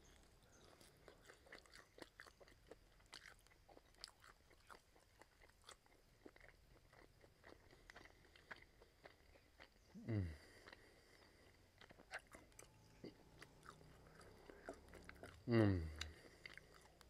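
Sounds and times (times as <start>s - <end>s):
chewing with wet mouth clicks: 0.1s - 17.0s.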